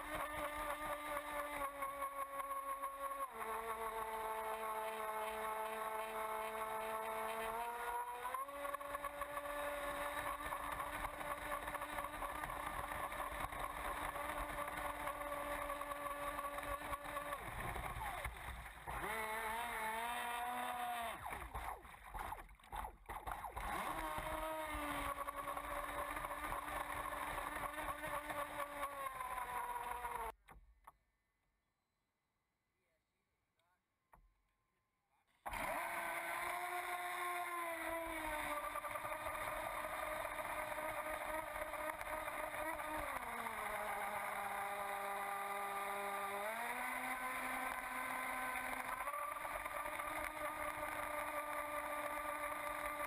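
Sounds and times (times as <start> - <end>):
boat motor running: 0.0 - 30.3, 35.5 - 53.0.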